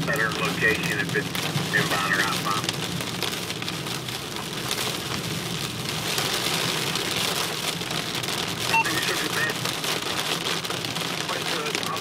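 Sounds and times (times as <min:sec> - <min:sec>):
car low hum: 0:00.0 - 0:12.0
heavy rain on car roof: 0:00.0 - 0:12.0.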